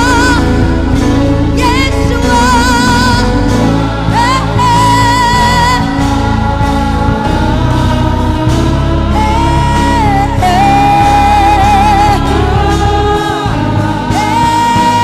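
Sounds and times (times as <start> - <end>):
bass and keyboard accompaniment: 0.0 - 15.0
person singing gospel: 0.0 - 15.0.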